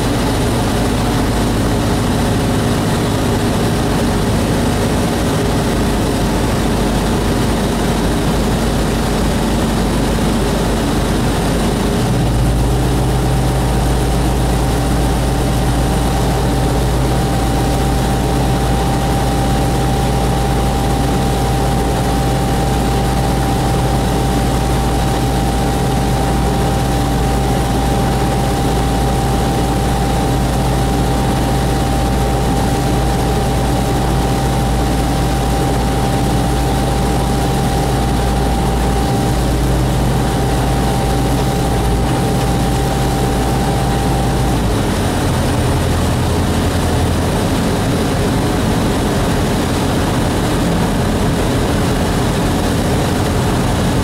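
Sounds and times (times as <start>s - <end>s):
light aircraft engine and propeller: 0.0s - 54.0s
thin steady whine: 0.0s - 54.0s.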